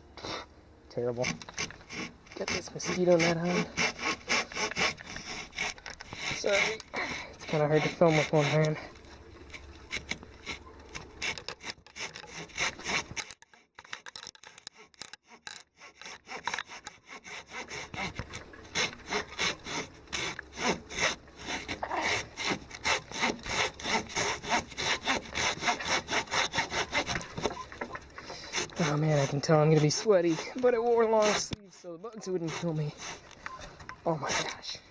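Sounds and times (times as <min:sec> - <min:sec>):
hand saw cutting a log: 0:01.0 - 0:33.4, 0:34.1 - 0:34.8.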